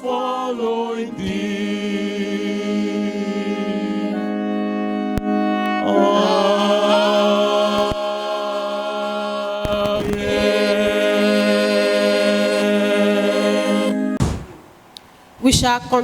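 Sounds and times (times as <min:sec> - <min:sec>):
choir singing held chord: 0:00.0 - 0:14.2.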